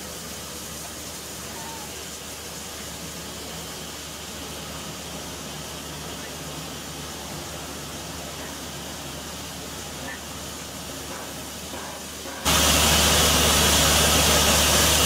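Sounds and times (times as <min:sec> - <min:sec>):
steam hissing from locomotive: 0:00.0 - 0:15.0.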